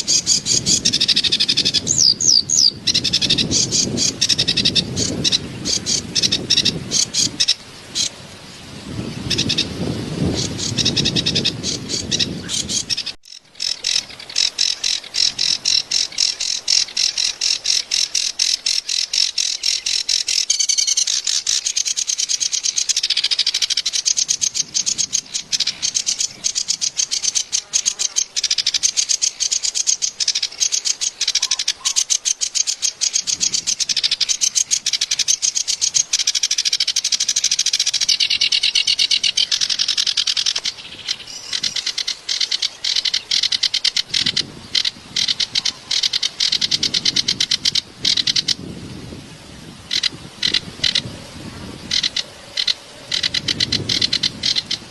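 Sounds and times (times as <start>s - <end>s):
reed warbler chattering song: 0.0s - 54.9s.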